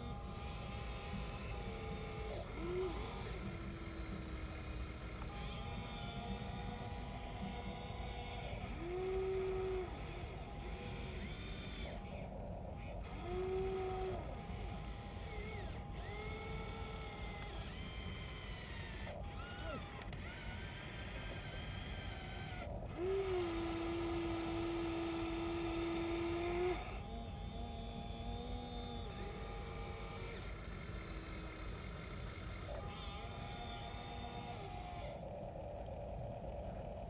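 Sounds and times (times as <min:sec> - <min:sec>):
electric motors whining: 0:00.0 - 0:37.0
low background noise: 0:00.0 - 0:37.0.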